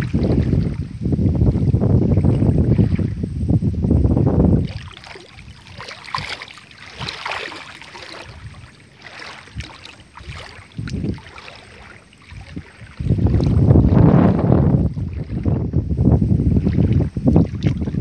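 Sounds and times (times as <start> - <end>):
wind gusts on microphone: 0.0 - 18.0.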